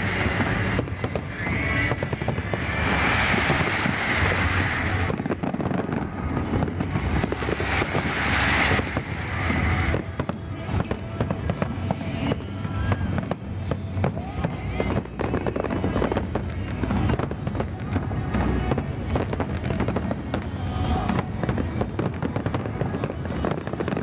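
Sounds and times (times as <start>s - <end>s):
fireworks bursting: 0.0s - 24.0s
fireworks crackling: 0.0s - 24.0s.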